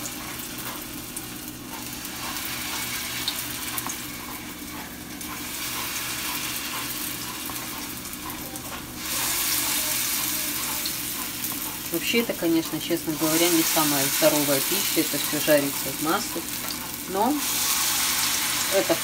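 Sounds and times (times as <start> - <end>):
batter sizzling in hot oil: 0.0 - 19.0.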